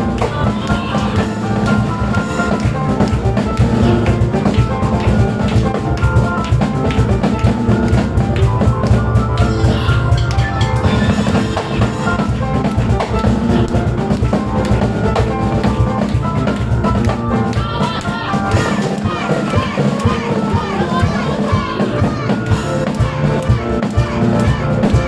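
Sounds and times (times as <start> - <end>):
cajon: 0.0 - 25.0
drum kit beat: 0.0 - 25.0
fast piano playing: 0.0 - 25.0.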